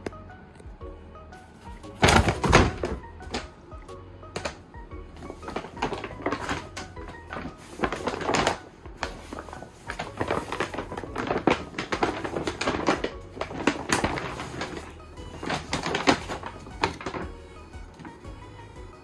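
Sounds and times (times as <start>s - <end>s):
paper bag rustling and crinkling: 1.6s - 3.5s, 4.4s - 18.3s.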